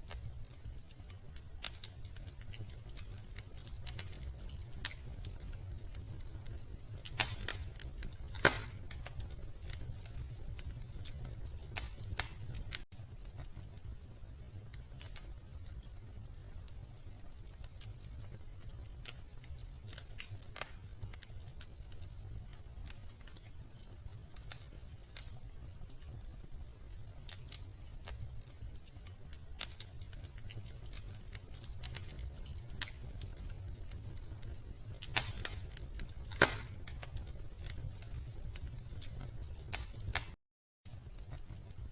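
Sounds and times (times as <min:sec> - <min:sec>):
low rumble of burning logs: 0:00.0 - 0:41.9
wood fire crackling and popping: 0:00.0 - 0:41.9.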